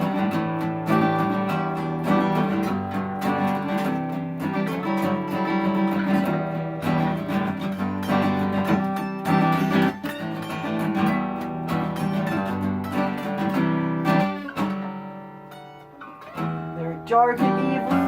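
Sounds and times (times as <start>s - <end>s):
guitar strummed in chords: 0.0s - 18.0s.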